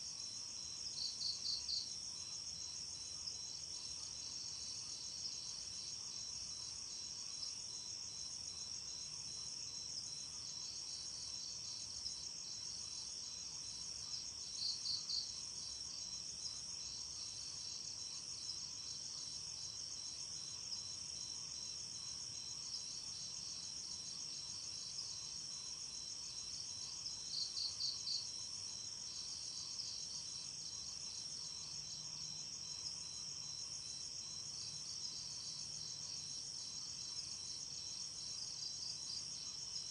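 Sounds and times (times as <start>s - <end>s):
crickets chirping chorus: 0.0s - 39.9s.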